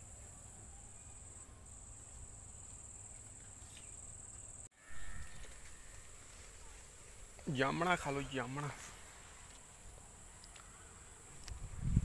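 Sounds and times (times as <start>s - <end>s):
insects trilling: 0.0s - 11.7s.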